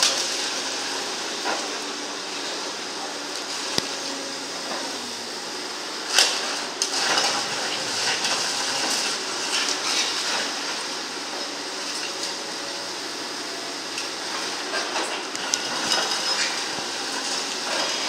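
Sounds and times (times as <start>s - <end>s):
excavator machine noise: 0.0s - 18.0s.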